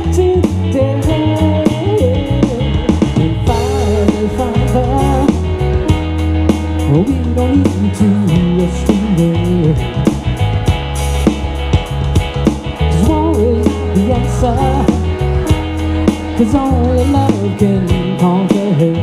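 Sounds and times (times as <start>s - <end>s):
person singing: 0.0s - 6.0s, 6.8s - 10.1s, 12.8s - 19.0s
drum beat and bass: 0.0s - 19.0s
guitar over backing track: 0.0s - 19.0s.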